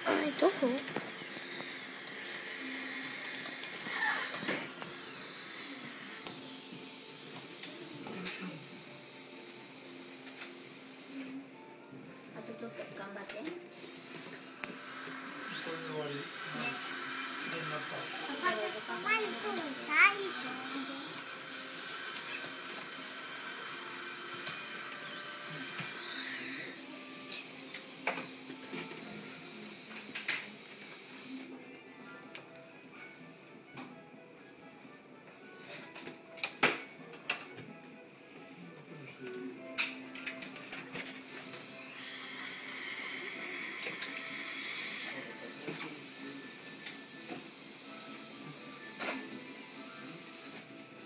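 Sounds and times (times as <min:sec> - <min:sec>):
dental drill whining: 0:00.0 - 0:11.4, 0:13.7 - 0:32.4, 0:39.8 - 0:51.0.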